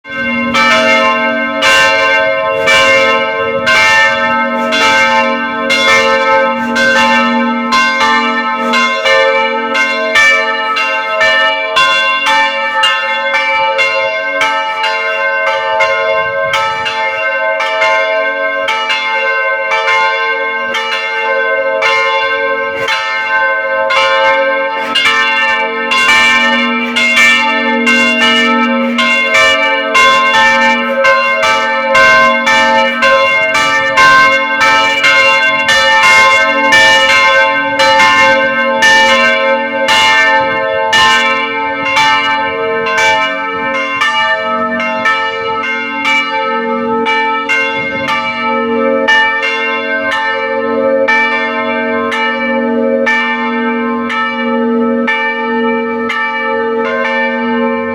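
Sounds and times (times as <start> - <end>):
church bells ringing: 0.0 - 57.9.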